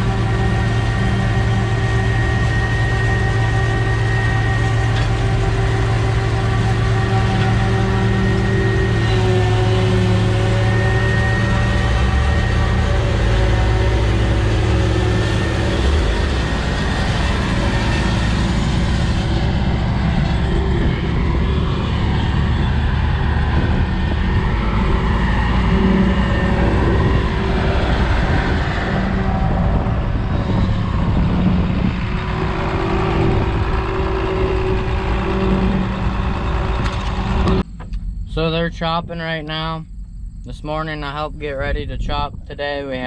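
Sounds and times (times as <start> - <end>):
diesel engine droning: 0.0 - 43.0.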